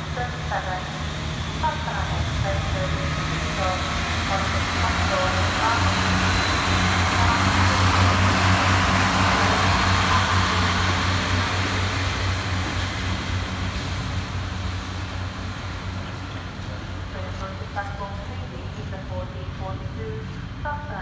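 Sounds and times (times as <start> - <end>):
wheel and rail noise: 0.0 - 18.7
diesel train engines humming: 0.0 - 21.0.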